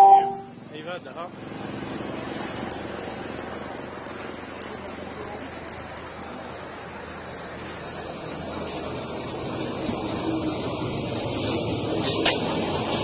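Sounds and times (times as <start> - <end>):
cricket chirping: 0.0 - 13.0
vehicles passing on road: 0.4 - 13.0.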